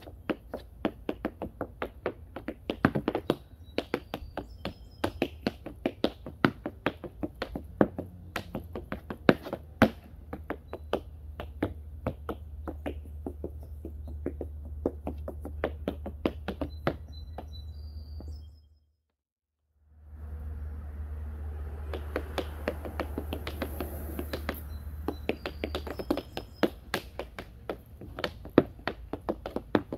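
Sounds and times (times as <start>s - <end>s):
tap shoes tapping on board: 0.0s - 17.5s, 21.9s - 29.9s.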